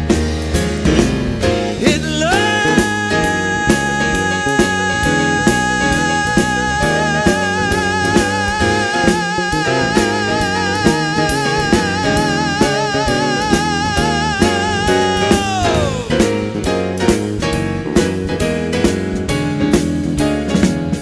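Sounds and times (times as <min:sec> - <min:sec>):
instrumental band music: 0:00.0 - 0:21.0.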